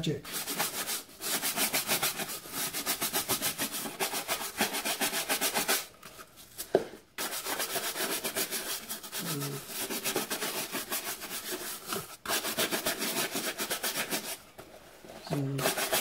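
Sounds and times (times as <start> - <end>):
brush scrubbing shoe sole: 0.3 - 5.9, 7.2 - 14.4, 15.4 - 16.0.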